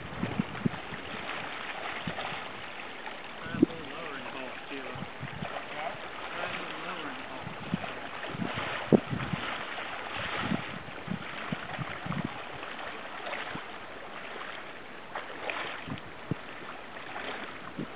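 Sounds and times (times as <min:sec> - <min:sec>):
river water splashing: 0:00.0 - 0:17.9.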